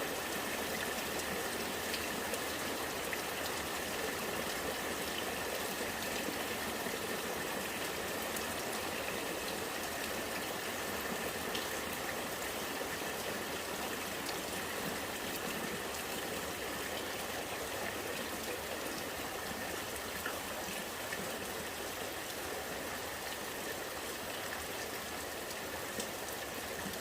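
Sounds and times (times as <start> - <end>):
rainwater running and gurgling: 0.0 - 27.0.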